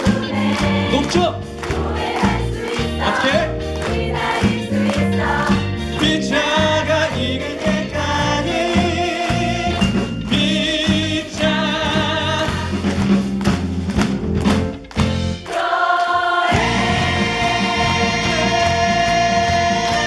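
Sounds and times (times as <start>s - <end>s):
voices singing with vibrato: 0.0s - 12.7s, 15.4s - 20.0s
instrumental accompaniment: 0.0s - 20.0s.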